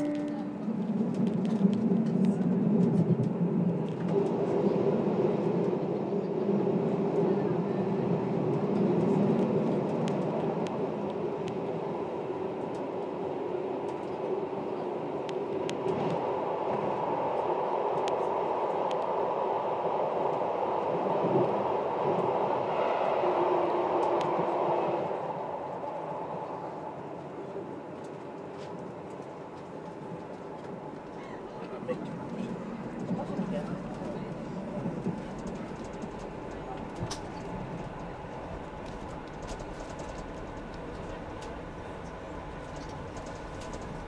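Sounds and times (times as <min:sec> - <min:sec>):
train rumbling in tunnel: 0:00.0 - 0:44.0.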